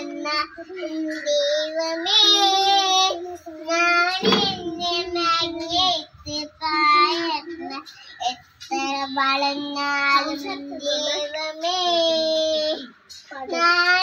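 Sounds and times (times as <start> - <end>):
girl singing: 0.0 - 14.0.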